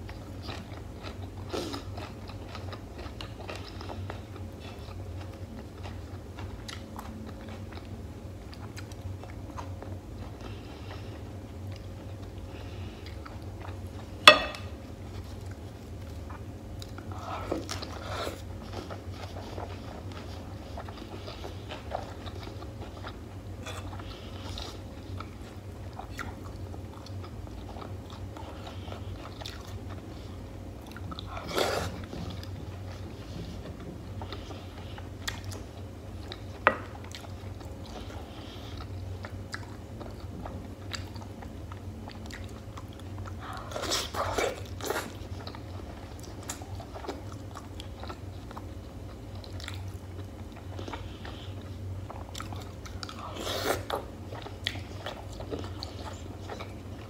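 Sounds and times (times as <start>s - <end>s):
chewing and wet mouth noises: 0.0s - 57.0s
steady low hum: 0.0s - 57.0s.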